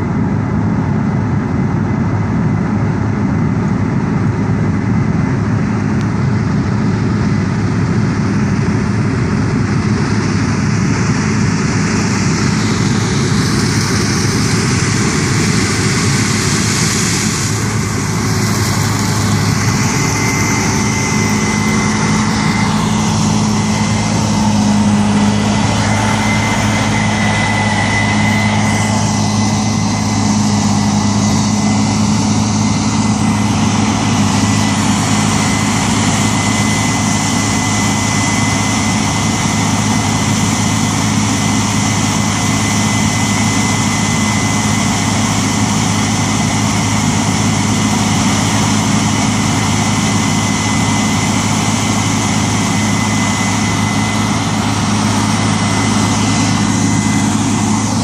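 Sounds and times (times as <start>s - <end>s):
combine harvester engine and machinery: 0.0s - 58.0s
steady high whine: 0.0s - 58.0s.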